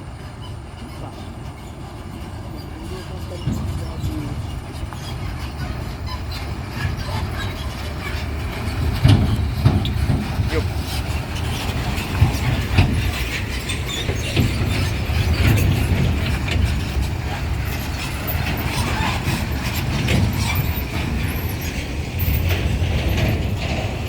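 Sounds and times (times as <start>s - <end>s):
heavy truck engine rumbling: 0.0s - 24.0s
knocks and rattles: 0.8s - 24.0s.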